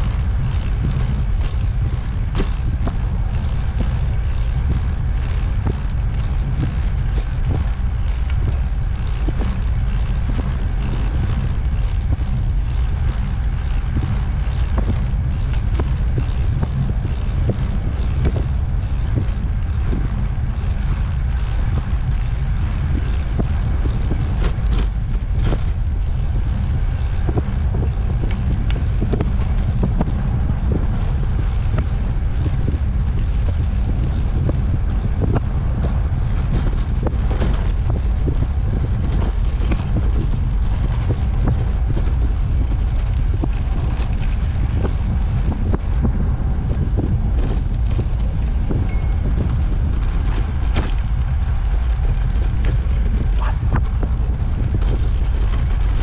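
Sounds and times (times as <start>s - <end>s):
rattles and knocks from bumps: 0.0s - 56.0s
tyre rumble: 0.0s - 56.0s
wind buffeting microphone: 0.0s - 56.0s.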